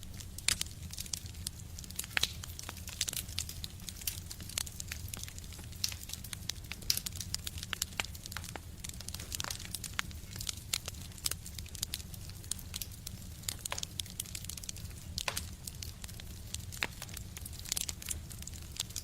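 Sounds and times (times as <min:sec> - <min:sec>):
low steady rumble: 0:00.0 - 0:15.2
wood fire crackling: 0:00.0 - 0:19.0.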